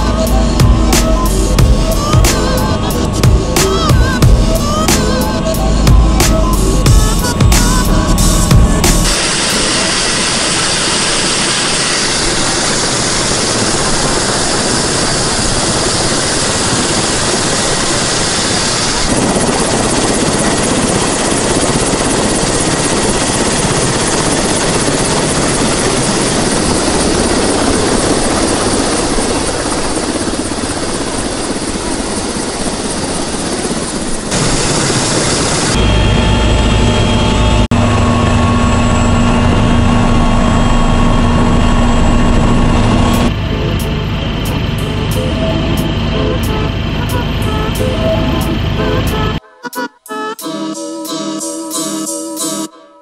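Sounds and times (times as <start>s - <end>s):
helicopter turbine and rotor: 0.0s - 52.7s.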